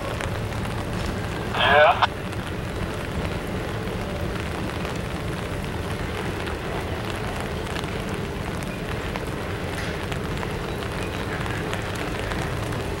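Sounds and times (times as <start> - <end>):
freight cars rumbling over bridge: 0.0 - 13.0.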